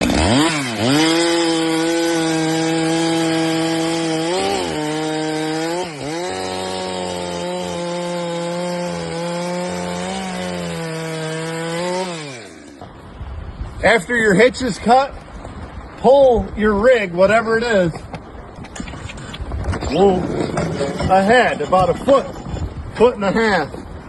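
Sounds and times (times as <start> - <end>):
chainsaw cutting logs: 0.0 - 13.6, 18.0 - 24.0.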